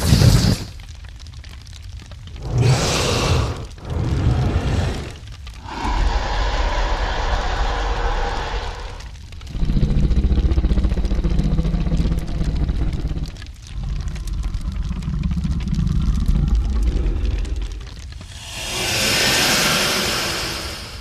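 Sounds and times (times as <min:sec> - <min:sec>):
deep rattling dragon growls: 0:00.0 - 0:21.0.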